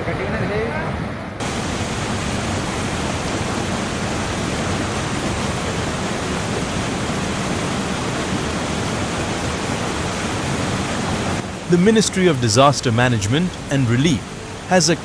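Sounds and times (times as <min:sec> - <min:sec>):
floodwater rushing: 0:01.4 - 0:15.0.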